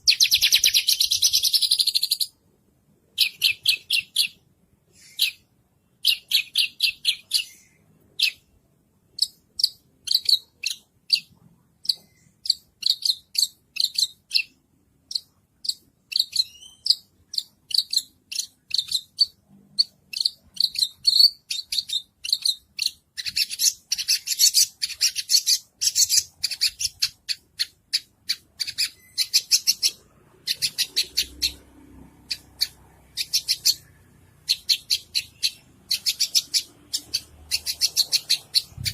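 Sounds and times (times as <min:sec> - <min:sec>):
harsh bird chattering: 0:00.0 - 0:02.3, 0:09.2 - 0:31.6, 0:32.2 - 0:38.9
bird singing high chirps: 0:00.0 - 0:02.4, 0:03.2 - 0:08.5, 0:09.2 - 0:38.9.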